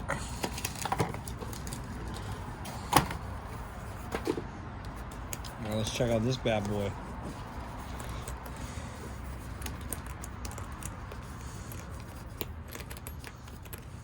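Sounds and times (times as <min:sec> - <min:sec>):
distant traffic: 0:00.0 - 0:14.0
packaging clicks and scrapes: 0:00.1 - 0:14.0.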